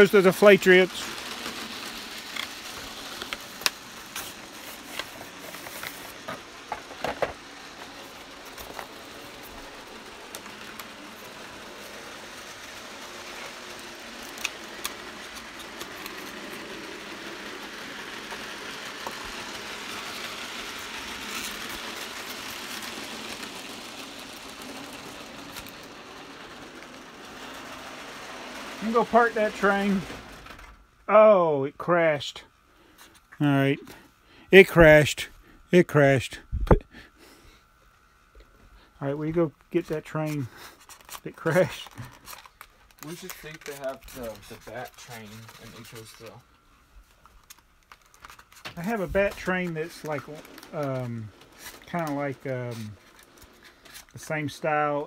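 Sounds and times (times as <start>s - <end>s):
wheels clicking over rail joints: 0.0s - 30.8s, 39.7s - 46.4s, 47.5s - 55.0s
model train running: 0.0s - 32.5s, 34.5s - 36.4s, 38.9s - 46.6s, 47.2s - 55.0s.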